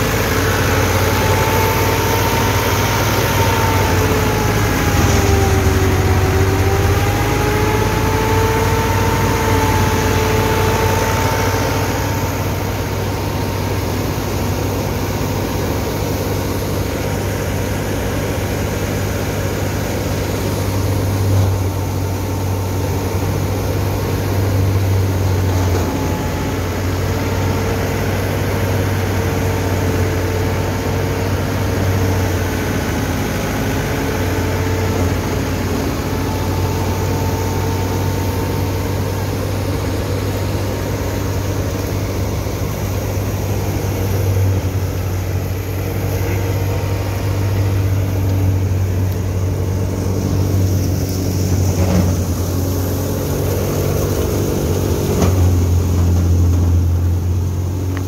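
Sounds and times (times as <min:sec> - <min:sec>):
thresher drum and fans whining: 0:00.0 - 0:57.9
tractor diesel engine droning: 0:00.0 - 0:58.0.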